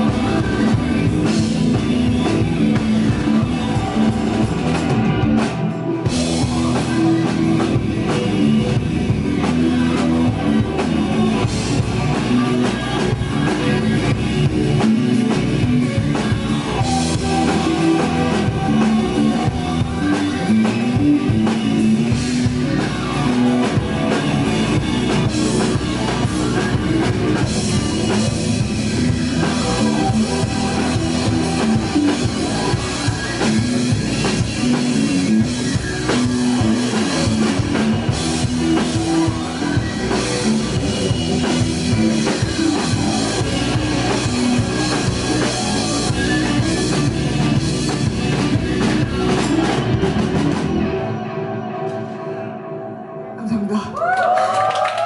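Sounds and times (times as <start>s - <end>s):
drum kit: 0.0s - 52.5s
electric guitars: 0.0s - 55.0s.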